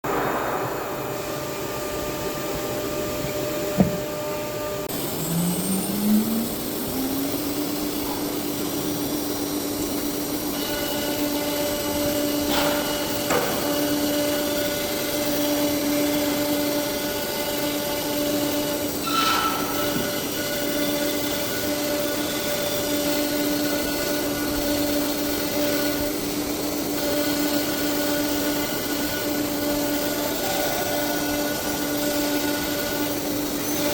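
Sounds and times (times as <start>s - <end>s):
router spindle whine: 0.8s - 33.9s.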